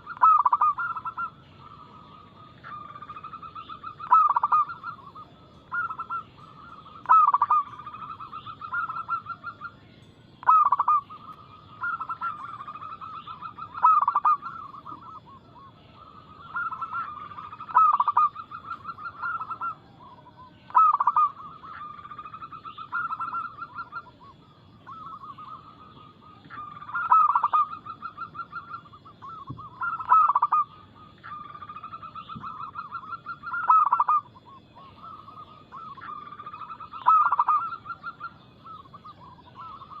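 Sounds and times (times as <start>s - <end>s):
doves cooing: 0.0s - 9.8s, 10.4s - 40.0s.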